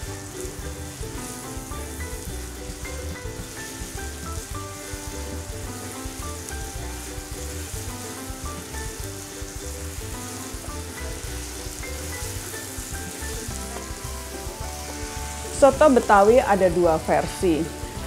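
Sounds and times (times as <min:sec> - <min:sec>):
background music with beat: 0:00.0 - 0:18.0
paste sizzling in hot oil: 0:00.0 - 0:18.0.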